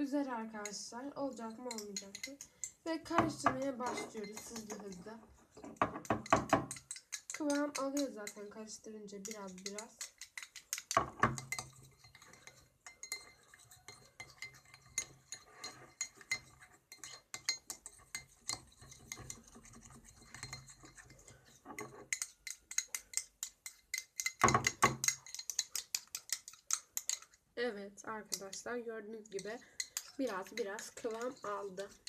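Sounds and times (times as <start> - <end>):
teaspoon clinking in container: 1.5 - 8.5, 9.2 - 27.4, 29.3 - 32.0.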